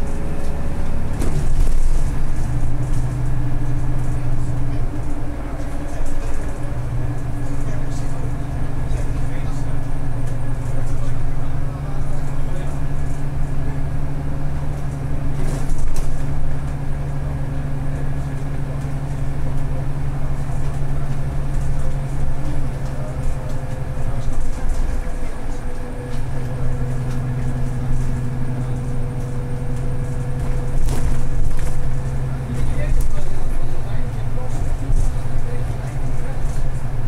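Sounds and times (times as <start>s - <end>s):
bus drivetrain hum: 0.0s - 37.0s
road noise: 0.0s - 37.0s.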